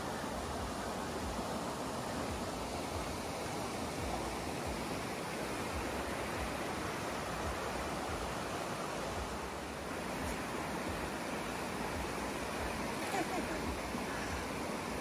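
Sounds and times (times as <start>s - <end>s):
creek running over stones: 0.0s - 15.0s.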